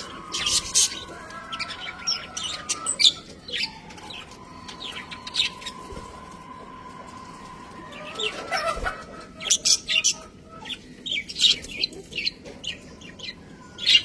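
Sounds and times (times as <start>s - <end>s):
budgerigars chirping: 0.0s - 5.8s, 7.9s - 14.0s.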